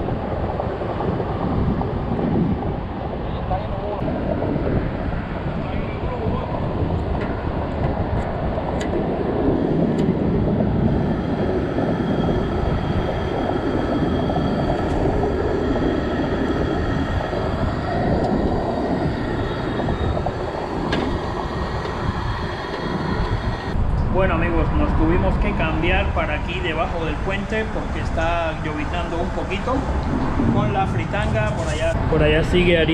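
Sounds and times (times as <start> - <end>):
traffic rumble: 0.0 - 32.9
wind: 0.0 - 32.9.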